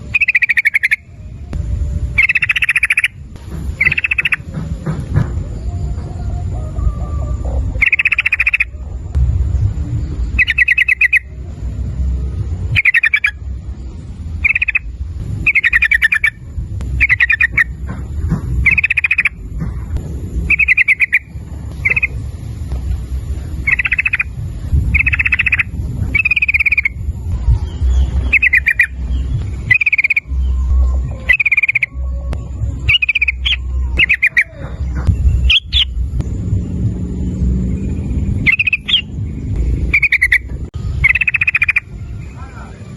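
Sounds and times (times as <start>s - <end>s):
bulbul chattering song: 0.0s - 42.9s
low rumble: 0.0s - 42.9s.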